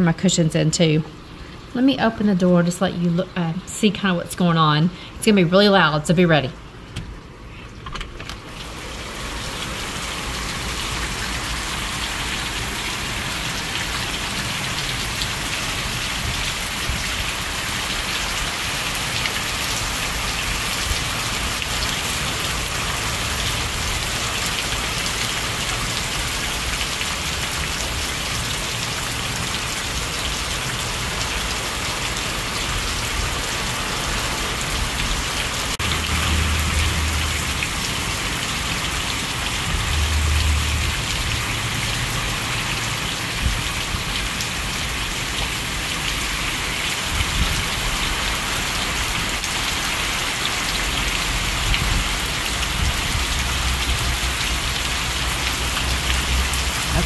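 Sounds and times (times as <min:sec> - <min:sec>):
heavy rain pouring: 0:08.4 - 0:57.0.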